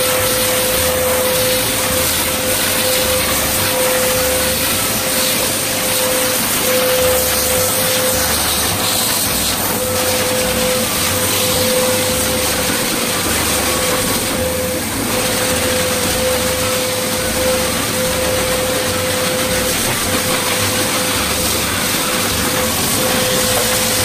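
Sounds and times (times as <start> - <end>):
blower dryer running: 0.0 - 24.0.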